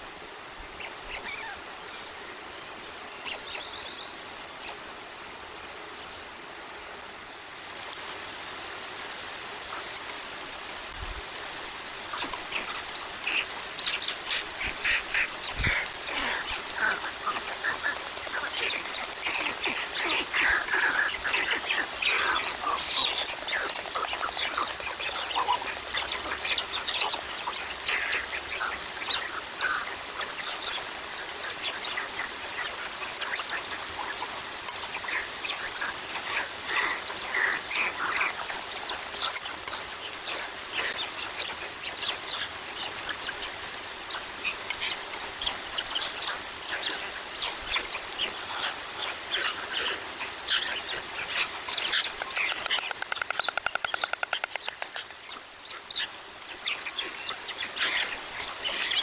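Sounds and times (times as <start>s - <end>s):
rain hiss: 0.0s - 59.0s
birds chirping: 9.1s - 59.0s.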